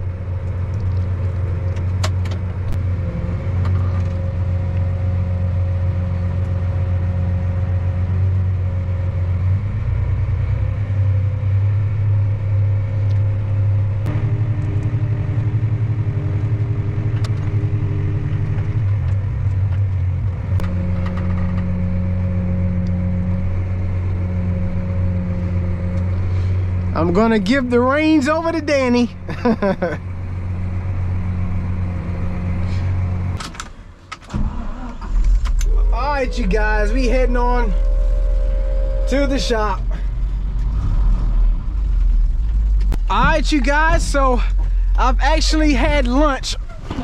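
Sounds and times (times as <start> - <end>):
diesel engine humming: 0.0 - 47.0.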